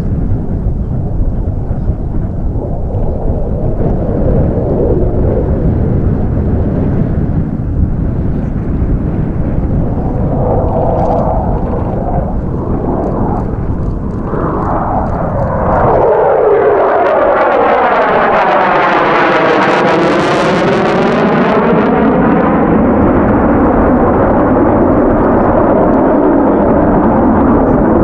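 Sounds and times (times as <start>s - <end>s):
jet engines roaring in flyby: 0.0s - 28.0s.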